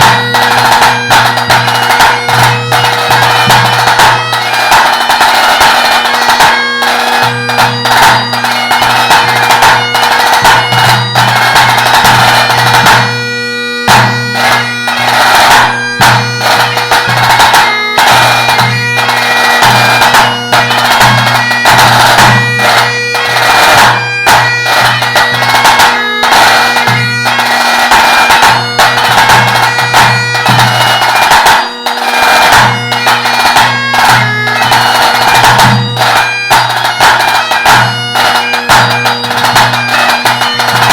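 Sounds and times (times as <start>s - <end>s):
bagpipe playing a tune: 0.0s - 40.9s
tenor drum beats: 0.0s - 40.9s.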